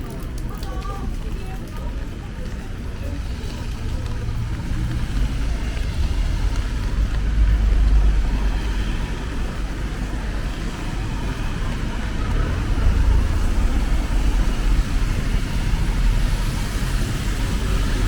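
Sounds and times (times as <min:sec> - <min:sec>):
cars going by: 0:02.0 - 0:18.0.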